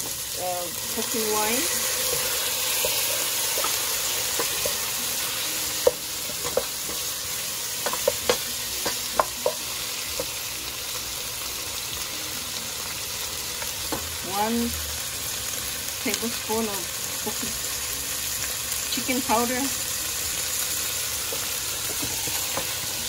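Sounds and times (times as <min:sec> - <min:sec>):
food sizzling in a pot: 0:00.0 - 0:23.0.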